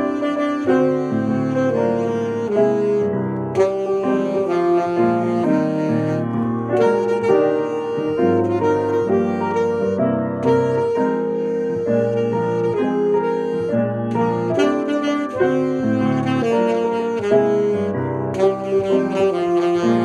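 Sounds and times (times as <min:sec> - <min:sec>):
grand piano chords: 0:00.0 - 0:20.0
saxophone melody: 0:00.0 - 0:20.0.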